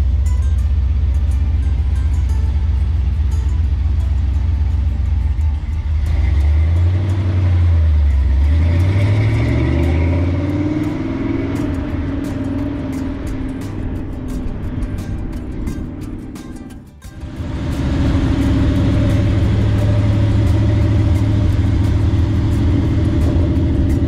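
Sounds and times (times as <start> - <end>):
truck engine rumbling and revving: 0.0 - 24.0.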